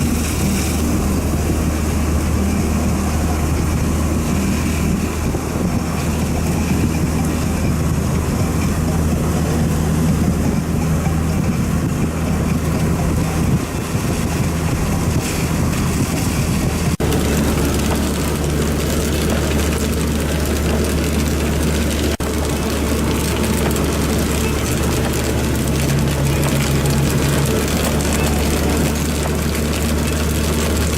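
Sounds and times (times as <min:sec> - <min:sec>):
heavy rain pouring: 0:00.0 - 0:30.9
wind buffeting microphone: 0:00.0 - 0:30.9.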